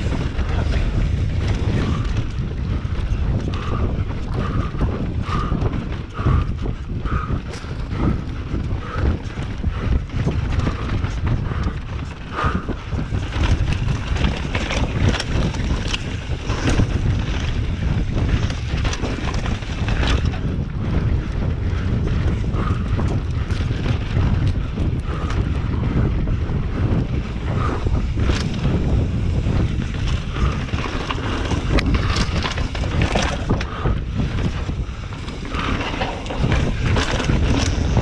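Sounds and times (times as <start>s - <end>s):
bike rattling and clicking: 0.0s - 38.0s
tyres rumbling on dirt trail: 0.0s - 38.0s
wind buffeting microphone: 0.0s - 38.0s.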